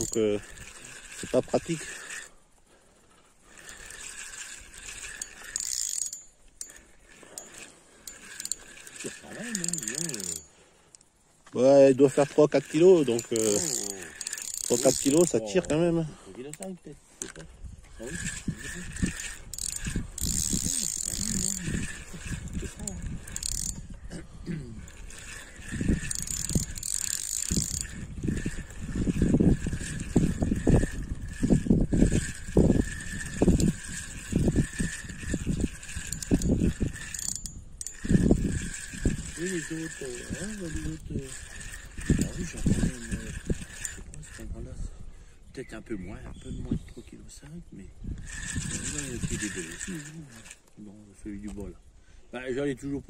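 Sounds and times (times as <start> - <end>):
fishing reel whirring and clicking: 0.0 - 53.0.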